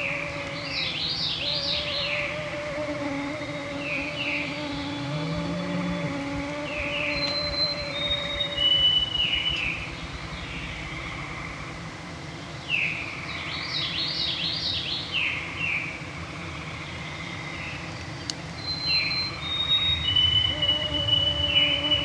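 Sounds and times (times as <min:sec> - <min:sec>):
low background hum: 0:00.0 - 0:22.0
songbirds singing: 0:00.0 - 0:22.0.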